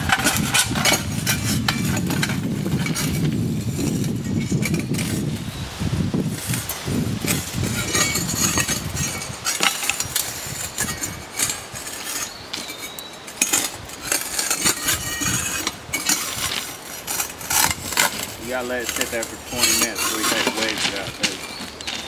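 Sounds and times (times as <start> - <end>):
metal tools clinking and knocking: 0.0 - 5.2, 6.4 - 22.0.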